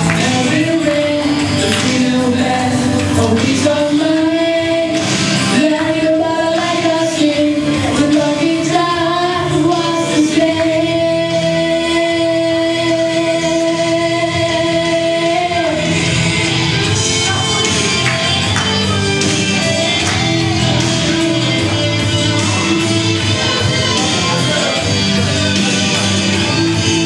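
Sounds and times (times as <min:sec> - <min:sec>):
backing track music: 0:00.0 - 0:27.0
person singing: 0:00.0 - 0:27.0.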